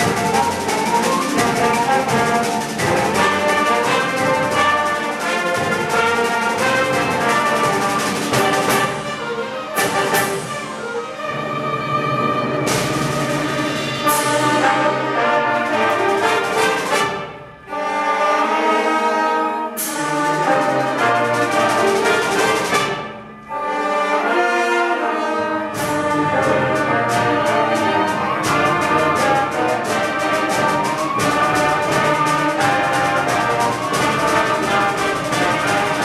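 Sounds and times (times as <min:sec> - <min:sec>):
concert band playing: 0:00.0 - 0:36.0.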